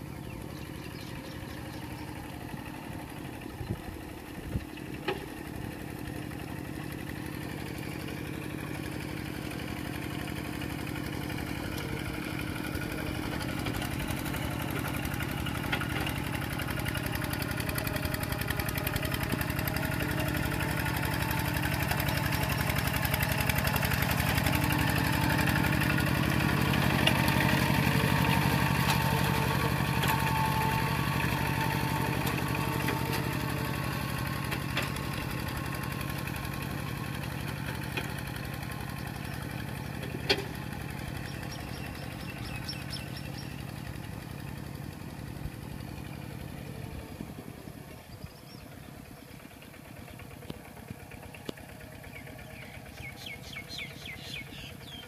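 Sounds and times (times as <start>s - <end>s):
walking tractor diesel engine running: 0.0s - 55.0s.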